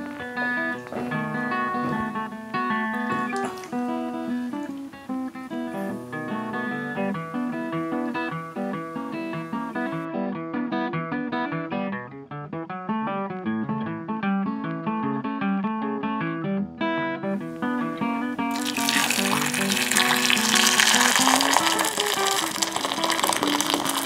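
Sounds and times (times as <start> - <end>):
acoustic guitar plucked notes: 0.0 - 24.0.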